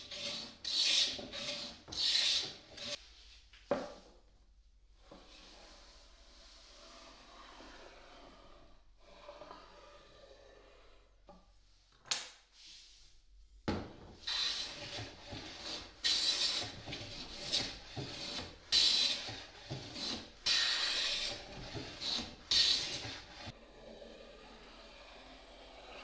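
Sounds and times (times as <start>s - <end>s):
bench plane rasping strokes: 0.0s - 3.0s, 5.1s - 11.4s, 14.2s - 26.0s.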